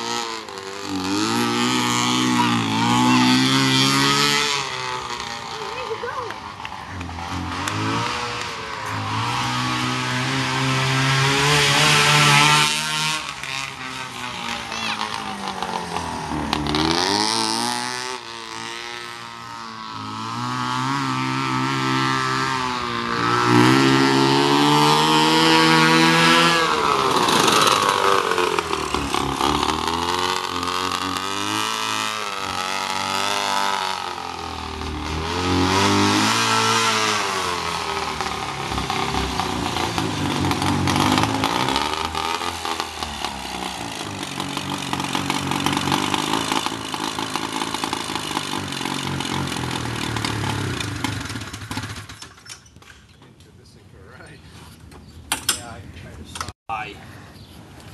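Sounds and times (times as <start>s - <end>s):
two-stroke engine revving: 0.0s - 52.5s.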